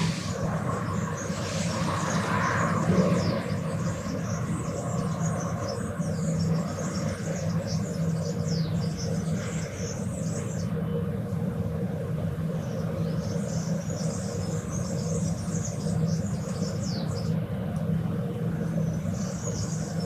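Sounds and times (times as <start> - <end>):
small birds chirping: 0.0 - 11.2, 12.4 - 17.5, 18.6 - 20.0
distant traffic rumble: 0.0 - 20.0.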